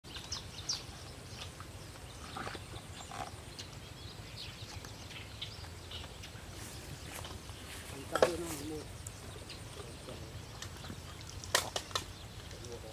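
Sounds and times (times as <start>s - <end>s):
bird chirps: 0.1s - 12.9s.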